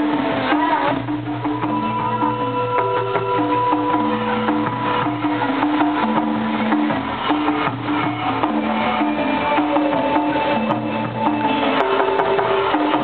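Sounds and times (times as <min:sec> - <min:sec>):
hand-drum and percussion beat: 0:00.0 - 0:13.0
melody of held notes: 0:00.0 - 0:13.0.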